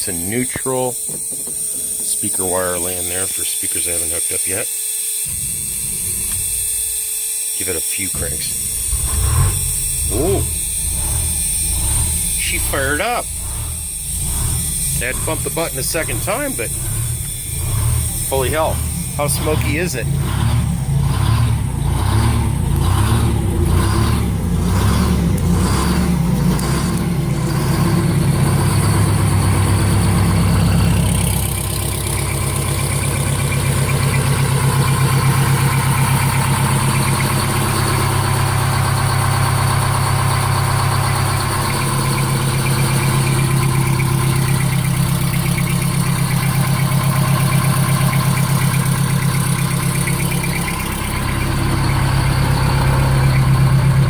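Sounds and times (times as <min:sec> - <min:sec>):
diesel engine idling: 0:00.0 - 0:04.6, 0:05.2 - 0:54.0.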